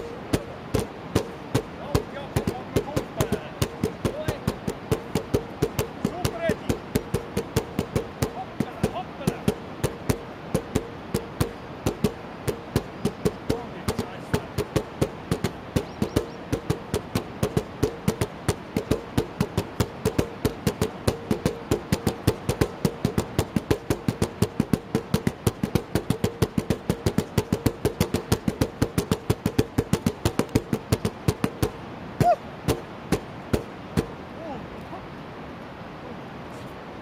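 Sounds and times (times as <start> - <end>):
drumming on plastic buckets: 0.0 - 34.2.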